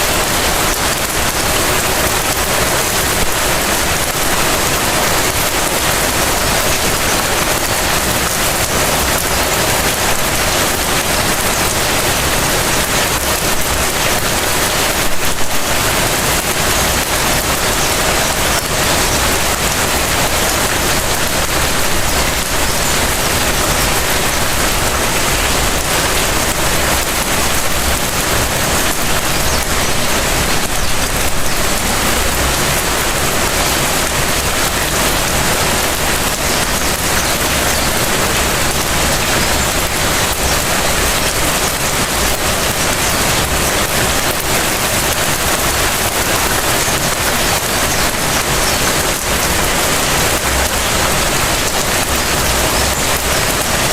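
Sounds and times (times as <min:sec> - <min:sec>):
light rain pattering: 0:00.0 - 0:53.9.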